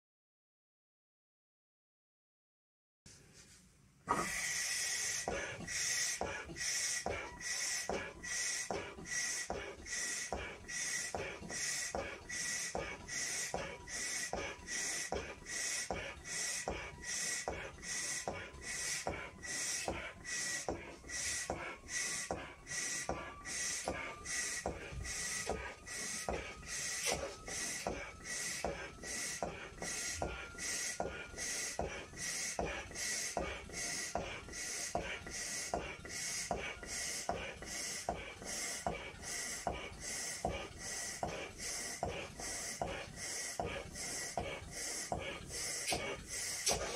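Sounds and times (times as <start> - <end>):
breaths blowing up a balloon: 4.1 - 46.9.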